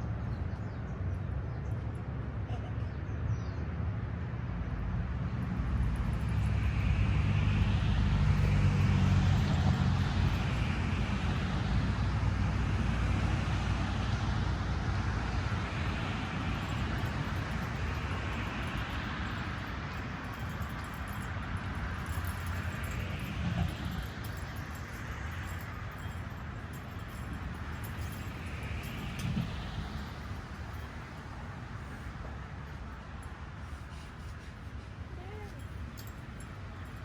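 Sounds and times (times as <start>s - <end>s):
vehicle engine rumbling: 4.6s - 37.0s.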